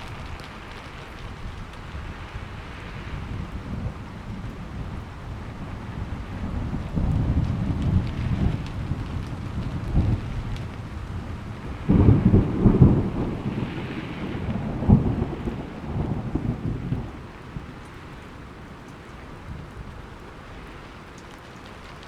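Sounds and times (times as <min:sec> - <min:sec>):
thunder rumbling: 0:00.0 - 0:18.8
steady rain: 0:00.0 - 0:22.0.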